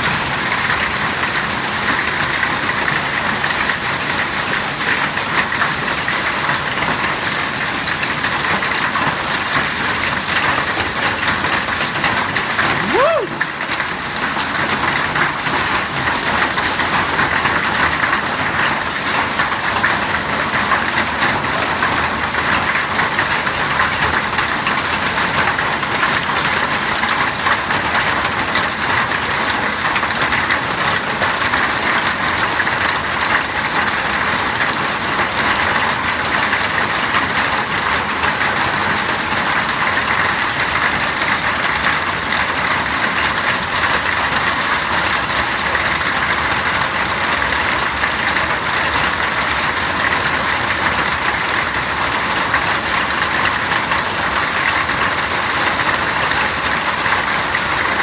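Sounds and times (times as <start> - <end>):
hail and heavy rain pelting: 0.0 - 58.0.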